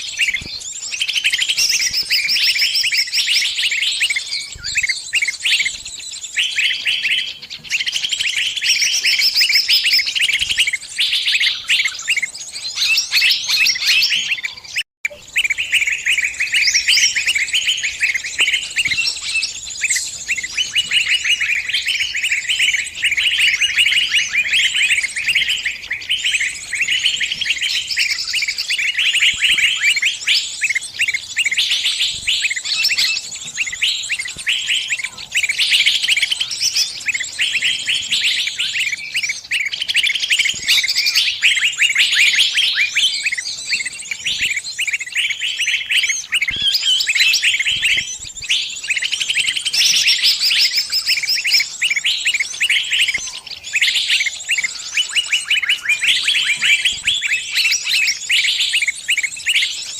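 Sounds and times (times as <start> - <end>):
small birds chirping rapidly: 0.0 - 59.9.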